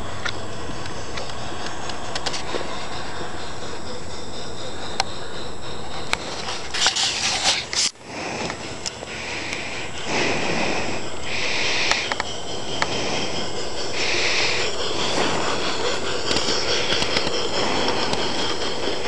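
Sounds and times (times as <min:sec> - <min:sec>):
model steam locomotive running: 0:00.0 - 0:19.0
steady rushing noise: 0:00.0 - 0:19.0
steam hissing bursts: 0:00.0 - 0:19.0.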